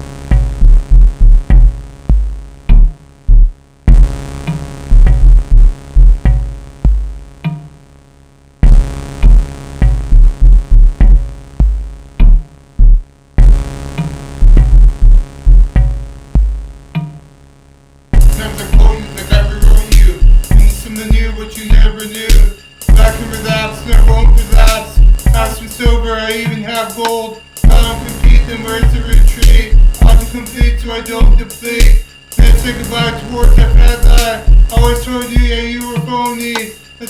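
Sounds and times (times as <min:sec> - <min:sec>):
heavy bass drum kicks: 0:00.0 - 0:07.6, 0:08.6 - 0:17.0, 0:18.1 - 0:36.7
hip hop beat: 0:00.0 - 0:07.6, 0:08.6 - 0:17.1, 0:18.2 - 0:37.0
synth lines: 0:00.0 - 0:07.8, 0:08.6 - 0:17.4, 0:18.1 - 0:37.0.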